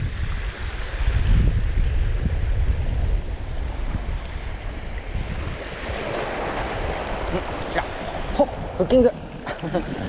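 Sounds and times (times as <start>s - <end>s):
small waves breaking on reef: 0.0s - 10.0s
wind buffeting microphone: 0.0s - 10.0s.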